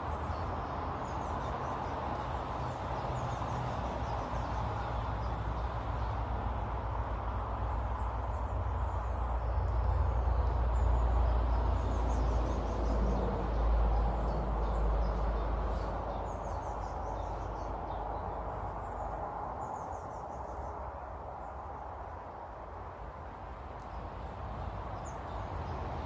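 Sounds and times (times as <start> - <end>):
small birds twittering: 0.0 - 6.4, 7.7 - 21.8, 24.9 - 25.9.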